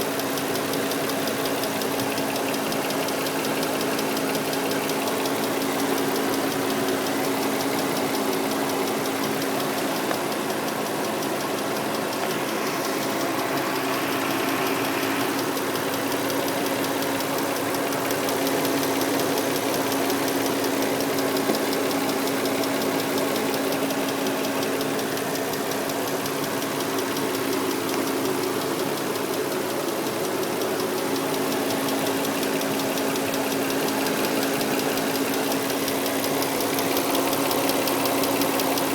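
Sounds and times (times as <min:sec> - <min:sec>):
car engine idling: 0:00.0 - 0:38.9
rapid even ticking: 0:00.0 - 0:38.9.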